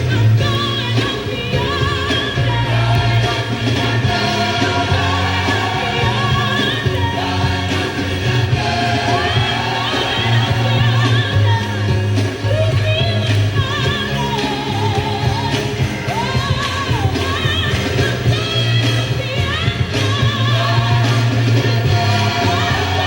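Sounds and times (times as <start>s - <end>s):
band with heavy bass: 0.0s - 23.0s.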